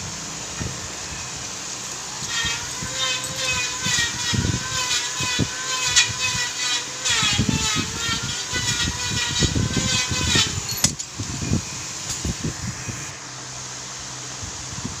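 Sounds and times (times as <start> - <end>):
machine hum: 0.0 - 14.6.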